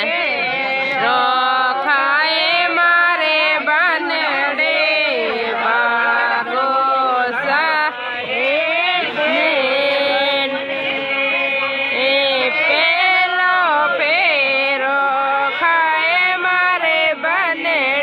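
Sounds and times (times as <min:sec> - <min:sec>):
voices singing together: 0:00.0 - 0:18.0.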